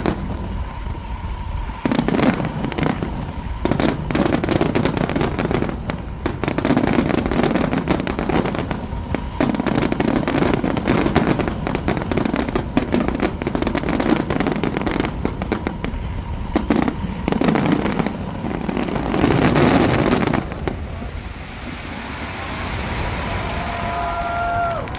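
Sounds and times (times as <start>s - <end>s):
fireworks bangs and crackling: 0.0s - 24.9s.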